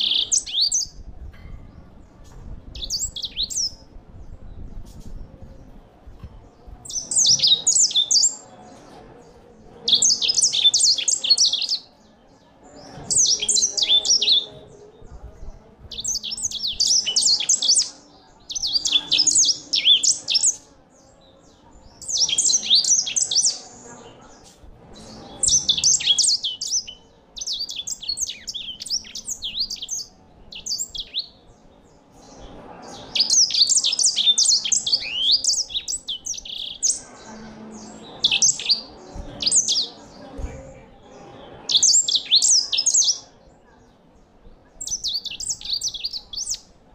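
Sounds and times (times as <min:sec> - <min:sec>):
finch twittering song: 0:00.0 - 0:08.5, 0:09.9 - 0:12.0, 0:12.8 - 0:14.8, 0:15.8 - 0:43.3, 0:44.8 - 0:46.7.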